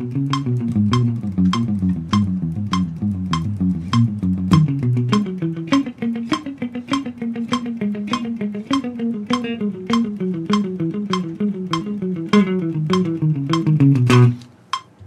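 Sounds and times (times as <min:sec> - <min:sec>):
electric guitar playing a scale: 0:00.0 - 0:15.0
metronome clicks: 0:00.0 - 0:15.0.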